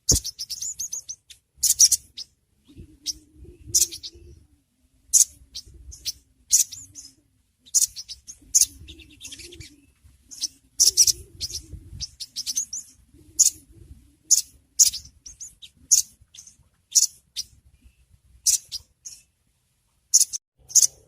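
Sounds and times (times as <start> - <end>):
bird calling in sharp chirps: 0.0 - 4.4, 5.1 - 13.7, 14.3 - 19.3, 20.1 - 21.0.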